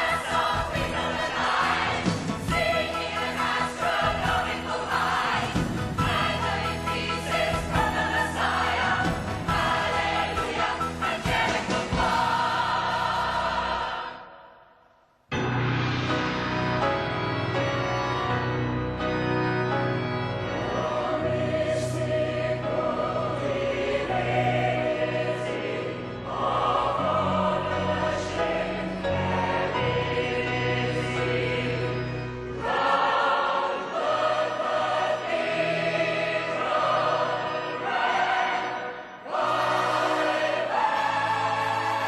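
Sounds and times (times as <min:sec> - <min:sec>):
ensemble singing as a choir: 0:00.0 - 0:14.8, 0:20.4 - 0:42.0.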